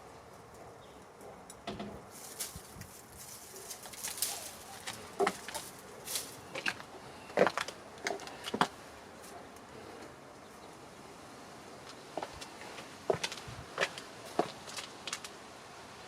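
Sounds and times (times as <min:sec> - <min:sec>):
rustling and scraping in soil: 0:00.0 - 0:10.7, 0:11.8 - 0:15.4.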